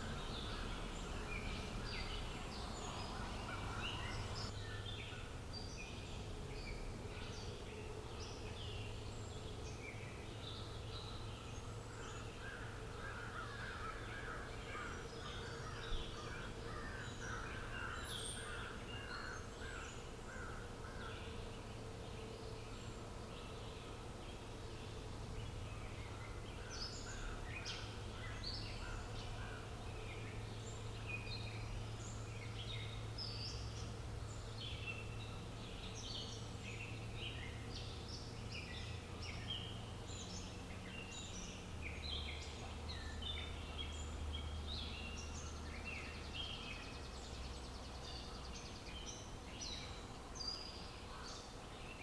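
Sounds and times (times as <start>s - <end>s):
low outdoor hum: 0.0s - 52.0s
songbirds chirping and singing: 0.0s - 52.0s.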